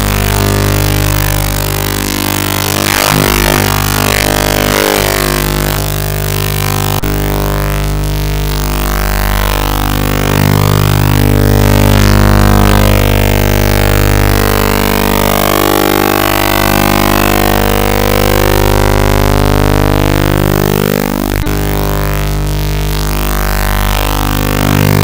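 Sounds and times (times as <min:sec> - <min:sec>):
droning electronic music: 0:00.0 - 0:25.0.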